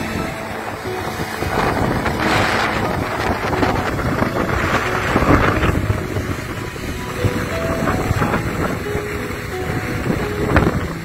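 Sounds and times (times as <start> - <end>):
surf breaking: 0.0 - 11.0
wind buffeting microphone: 0.0 - 11.0.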